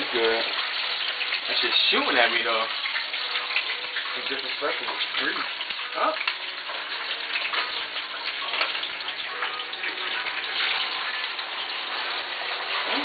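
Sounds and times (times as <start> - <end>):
chicken frying in hot oil: 0.0 - 13.0
grease crackling and popping: 0.0 - 13.0.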